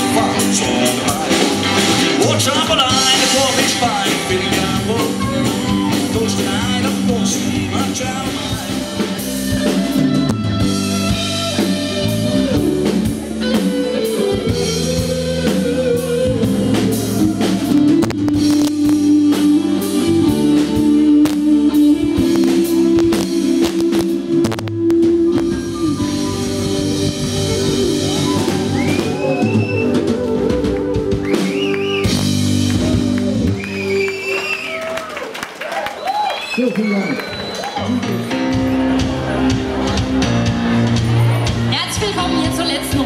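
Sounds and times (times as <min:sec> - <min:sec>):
bass guitar: 0:00.0 - 0:35.2, 0:37.6 - 0:43.0
drum kit: 0:00.0 - 0:35.2, 0:37.6 - 0:43.0
electric guitar: 0:00.0 - 0:35.2, 0:37.4 - 0:43.0.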